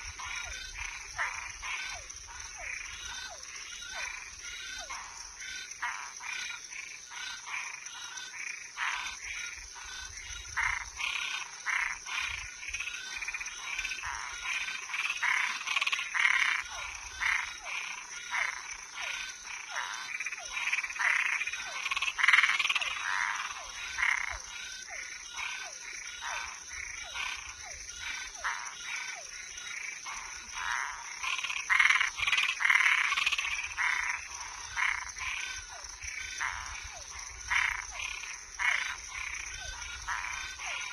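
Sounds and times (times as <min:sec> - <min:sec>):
frogs calling: 0:00.0 - 0:40.9.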